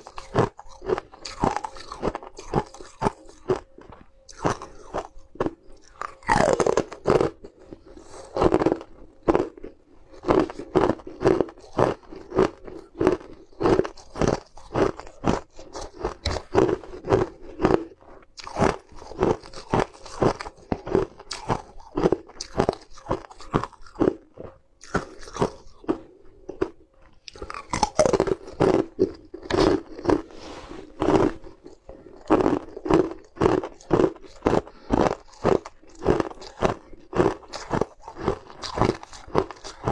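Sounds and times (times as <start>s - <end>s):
ice crunching in mouth: 0.0s - 39.9s.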